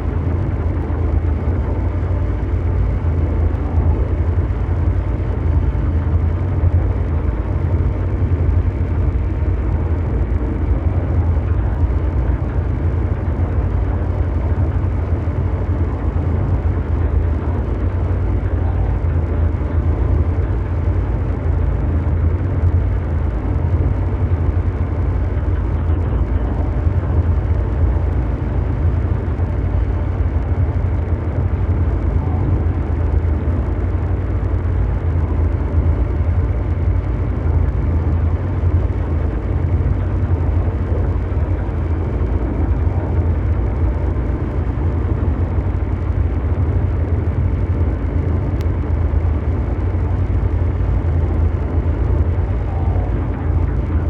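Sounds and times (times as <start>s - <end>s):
deep mechanical rumble: 0.0s - 54.0s.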